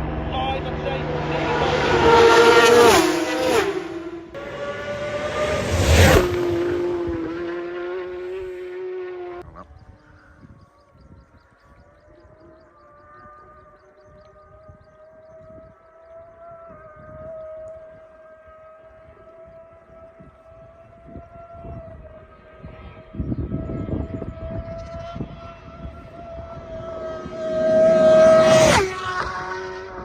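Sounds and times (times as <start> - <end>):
superbike passing at full throttle: 0.0 - 10.4, 12.2 - 30.0.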